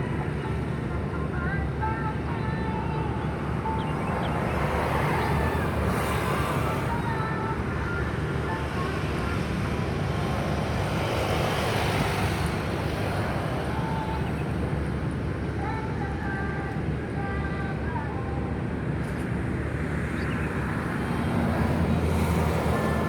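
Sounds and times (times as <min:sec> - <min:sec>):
ship engines droning: 0:00.0 - 0:23.0
wind: 0:00.0 - 0:23.0.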